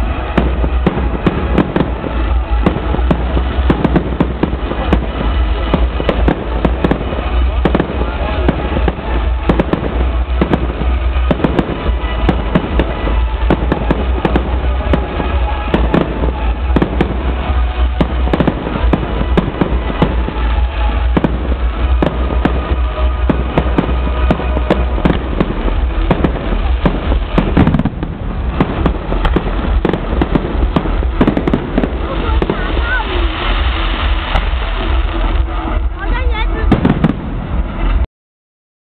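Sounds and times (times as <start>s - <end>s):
fireworks bangs and crackles: 0.0s - 38.1s.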